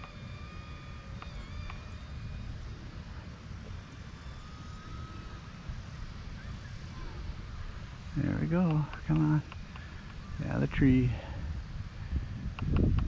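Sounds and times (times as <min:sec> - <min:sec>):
model plane motor whine: 0:00.0 - 0:13.0
wind rumble on microphone: 0:00.0 - 0:13.0.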